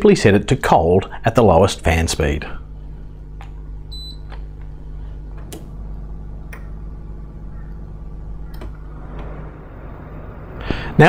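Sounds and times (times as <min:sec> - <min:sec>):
air conditioner fan hum: 0:00.0 - 0:11.0.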